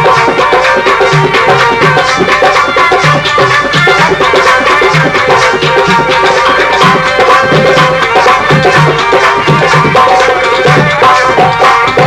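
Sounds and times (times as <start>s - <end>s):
hand drum rhythm: 0.0s - 12.0s.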